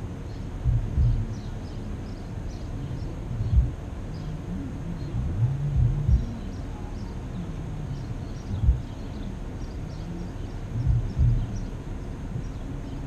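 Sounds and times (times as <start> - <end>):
vehicle idling rumble: 0.0 - 13.0
wind buffeting microphone: 0.0 - 13.0.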